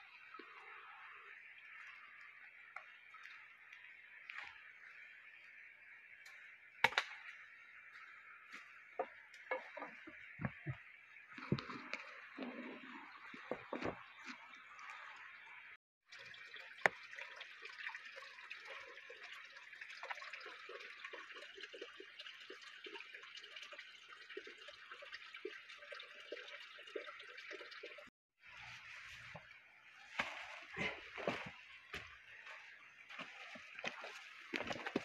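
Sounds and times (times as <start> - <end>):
stream trickling over rocks: 0.0 - 35.0.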